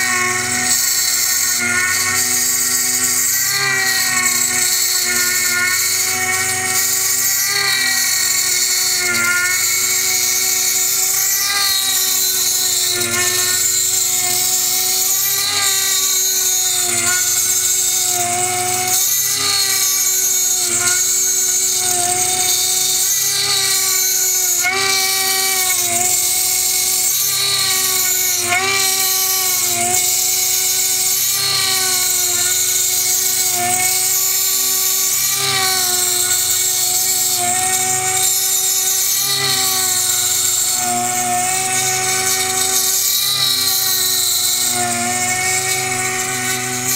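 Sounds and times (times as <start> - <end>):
milling machine spindle whine: 0.0 - 46.9.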